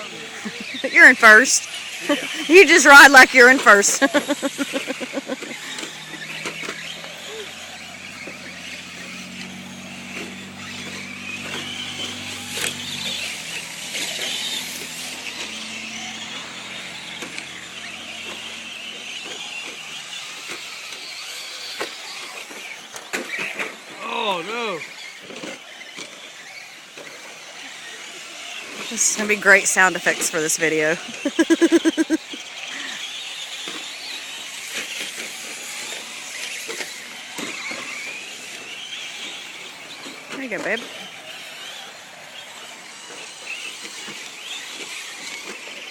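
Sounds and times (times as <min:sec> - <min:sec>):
electric toy truck motors whining: 0:00.0 - 0:45.9.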